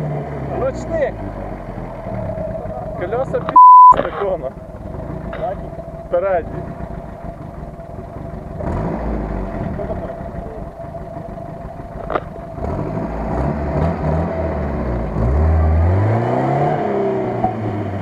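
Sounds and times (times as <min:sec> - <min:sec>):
suv engine idling and revving: 0:00.0 - 0:18.0.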